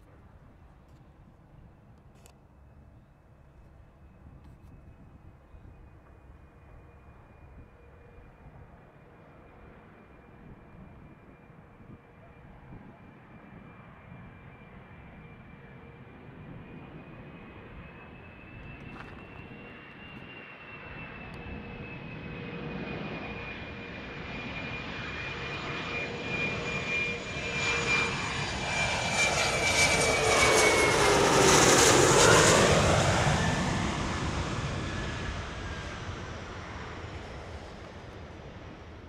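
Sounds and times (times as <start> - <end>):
jet airliner landing: 0.0 - 39.0.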